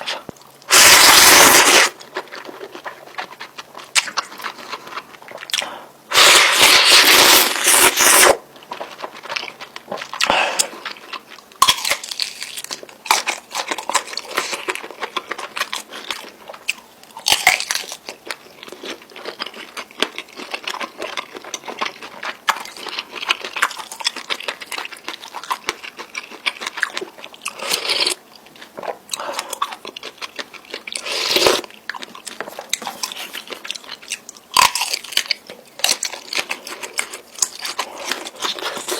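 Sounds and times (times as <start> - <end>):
close chewing and biting: 0.4 - 5.7, 6.4 - 38.9.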